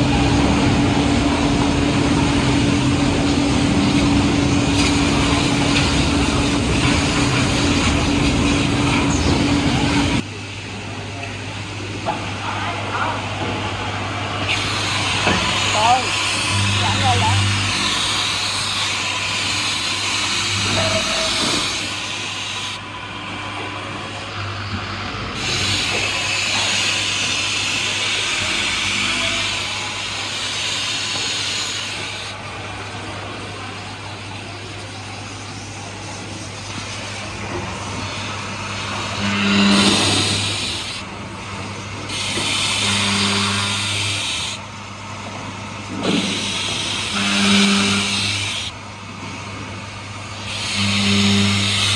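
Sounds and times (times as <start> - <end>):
machine motor hum: 0.0 - 51.9.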